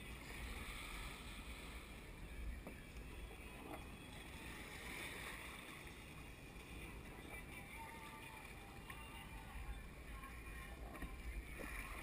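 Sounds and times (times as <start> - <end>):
water splashing against kayak hull: 0.0 - 9.7, 10.3 - 12.0.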